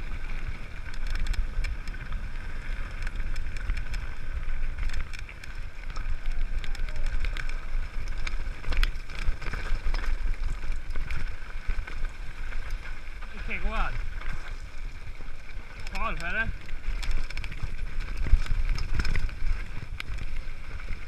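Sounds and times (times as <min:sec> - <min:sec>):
bike rattling over stones: 0:00.0 - 0:21.0
wind rumble on microphone: 0:00.0 - 0:21.0.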